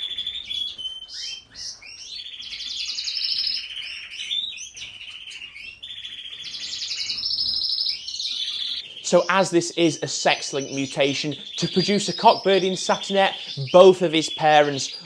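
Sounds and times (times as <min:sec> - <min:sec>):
canary singing trills: 0:00.0 - 0:15.0.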